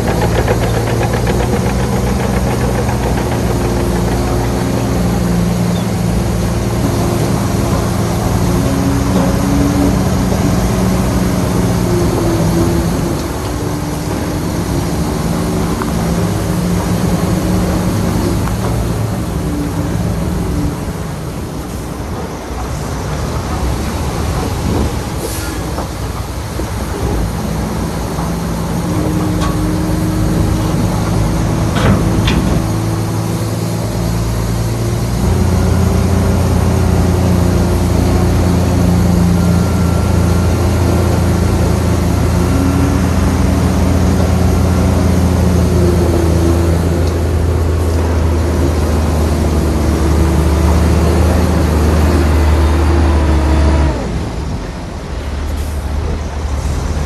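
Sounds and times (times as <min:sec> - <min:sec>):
bulldozer diesel engine working: 0:00.0 - 0:57.0.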